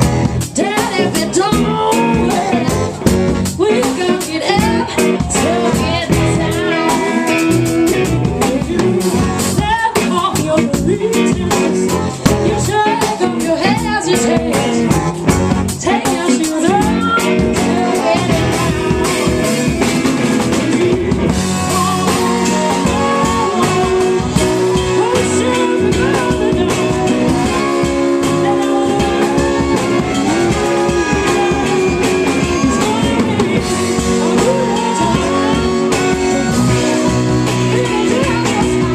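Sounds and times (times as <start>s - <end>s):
live band playing loudly: 0.0s - 38.9s
person singing: 0.0s - 38.9s.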